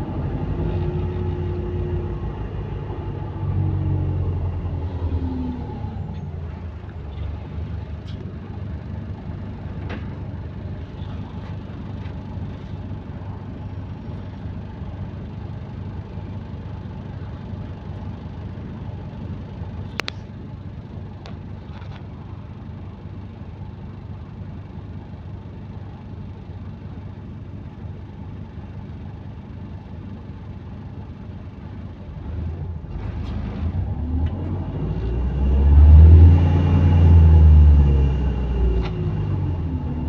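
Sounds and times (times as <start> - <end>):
bus engine whining and rumbling: 0.0 - 40.0.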